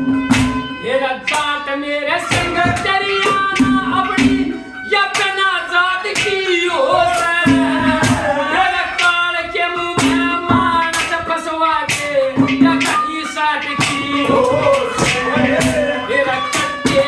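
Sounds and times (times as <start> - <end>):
instrumental accompaniment: 0.0 - 17.0
percussion strokes: 2.2 - 17.0
person singing ornamented melody: 2.3 - 17.0.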